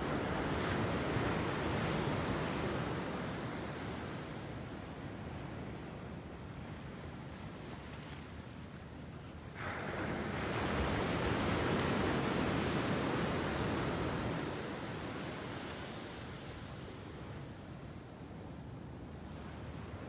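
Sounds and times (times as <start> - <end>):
low steady surf hiss: 0.0 - 20.0.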